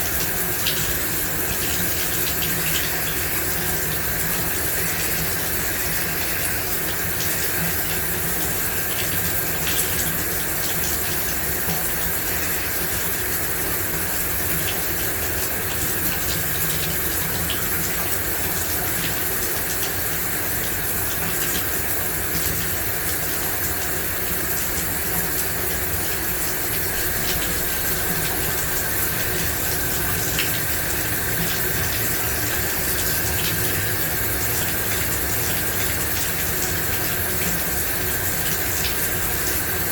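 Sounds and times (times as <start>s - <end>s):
shower water spraying: 0.0s - 39.9s.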